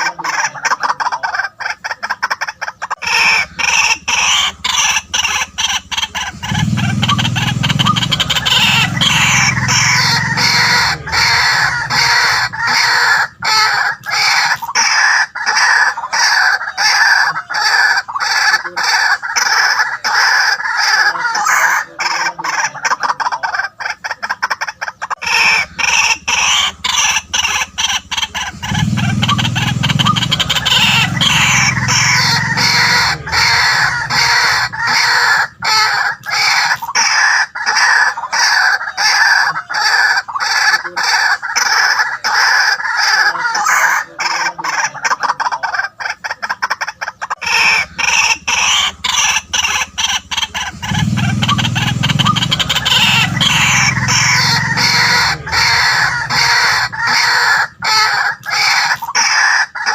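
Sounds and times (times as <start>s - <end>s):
bird croaking calls: 0.0s - 59.9s.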